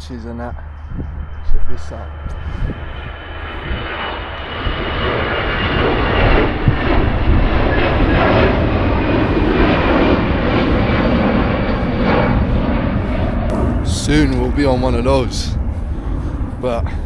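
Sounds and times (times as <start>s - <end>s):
jet engine noise: 0.0s - 17.0s
thin high whine: 0.0s - 17.0s.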